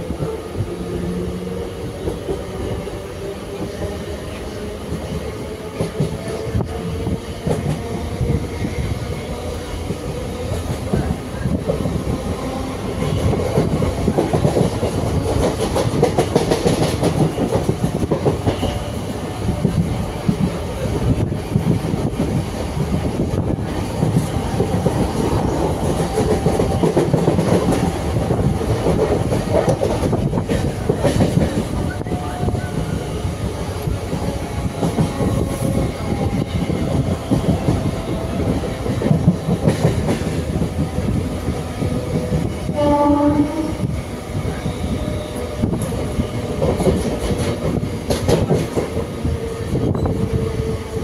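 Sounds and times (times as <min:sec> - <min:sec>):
train wheels rumbling: 0:00.0 - 0:51.0
clickety-clack over rail joints: 0:01.8 - 0:51.0.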